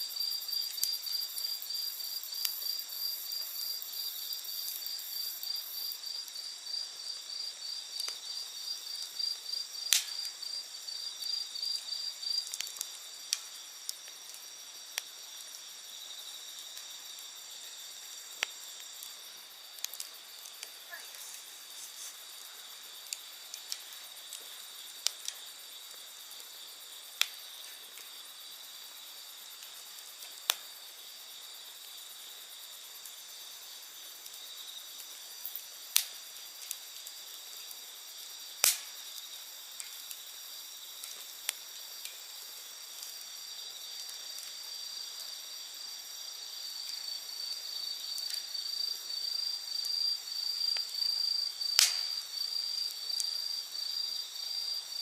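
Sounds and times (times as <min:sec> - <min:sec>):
campfire wood crackling: 0:00.0 - 0:55.0
insects chirping: 0:00.0 - 0:55.0.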